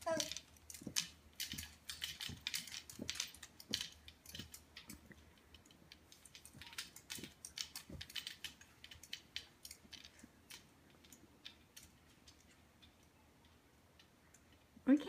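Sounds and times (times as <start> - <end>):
baby bouncer clicks and taps: 0.0 - 13.0.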